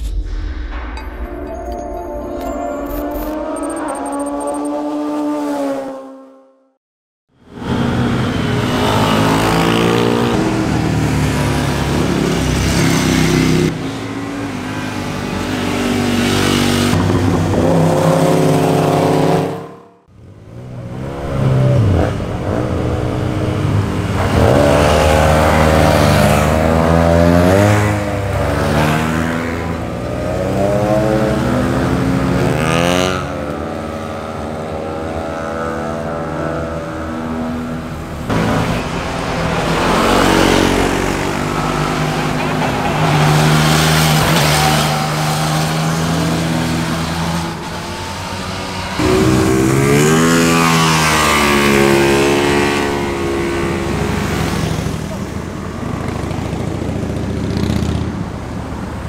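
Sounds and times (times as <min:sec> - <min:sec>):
motorcycle engines revving: 0:07.5 - 0:59.0.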